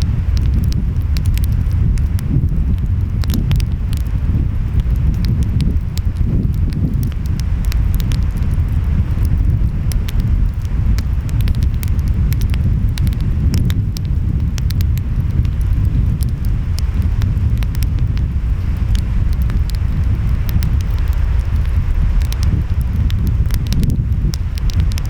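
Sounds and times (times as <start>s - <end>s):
wind: 0.0s - 25.0s
wood fire crackling: 0.0s - 25.0s.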